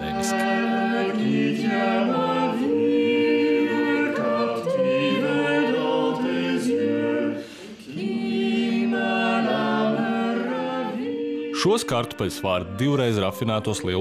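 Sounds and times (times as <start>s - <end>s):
a cappella singers in harmony: 0.0s - 14.0s.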